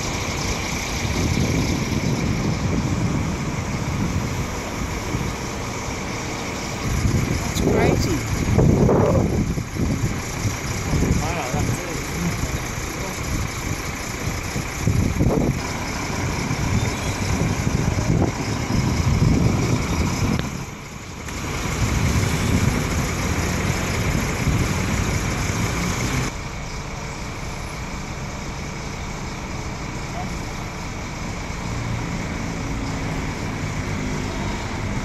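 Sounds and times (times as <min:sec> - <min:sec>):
street traffic noise: 0:00.0 - 0:35.0
vehicle engine running: 0:00.0 - 0:35.0.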